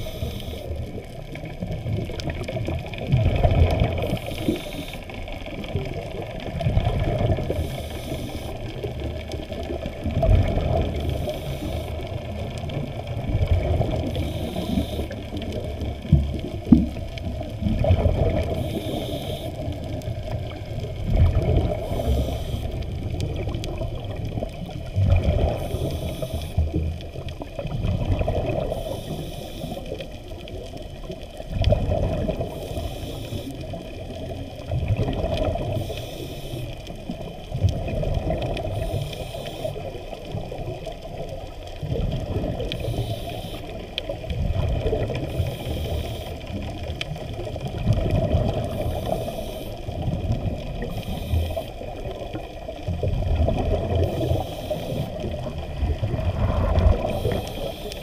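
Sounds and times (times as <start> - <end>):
muffled underwater rushing: 0.0 - 58.0.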